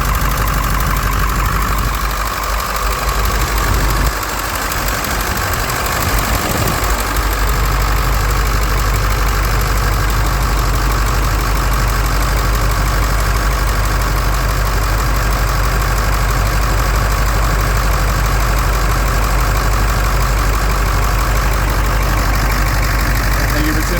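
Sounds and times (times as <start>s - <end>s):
truck engine idling: 0.0s - 23.9s.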